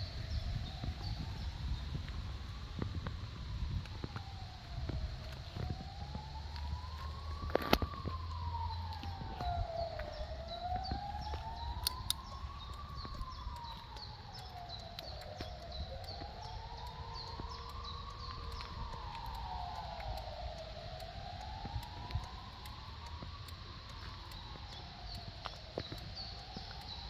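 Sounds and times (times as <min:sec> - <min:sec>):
siren wailing: 0:00.0 - 0:27.0.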